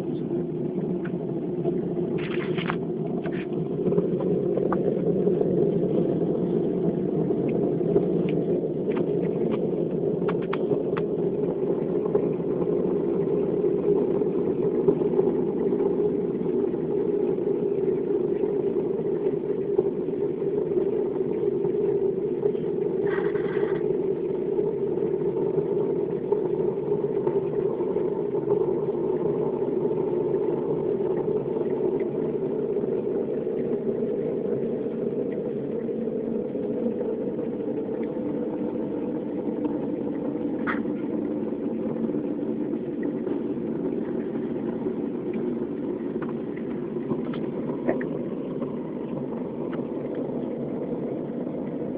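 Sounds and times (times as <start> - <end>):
low droning hum: 0.0 - 51.9.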